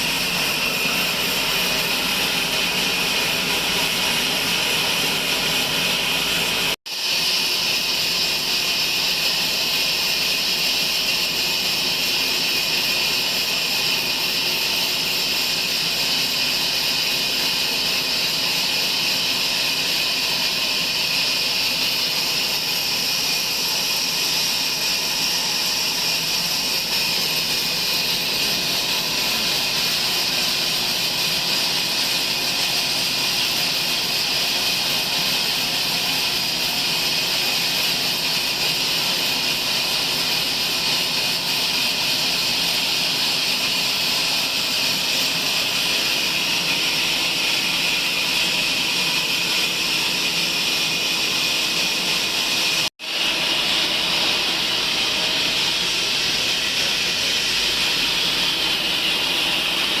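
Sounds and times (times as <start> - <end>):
bandsaw high hiss: 0.0 - 60.0.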